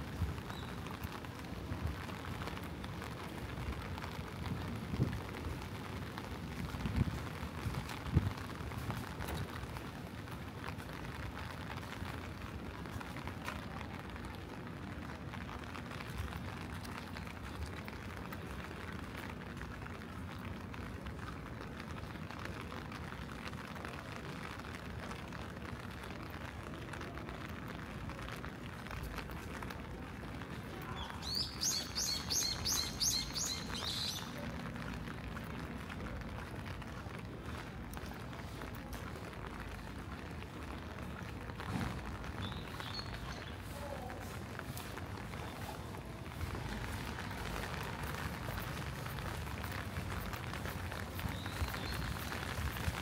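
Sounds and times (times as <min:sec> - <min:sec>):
rain hissing: 0:00.0 - 0:53.0
street ambience: 0:00.0 - 0:53.0.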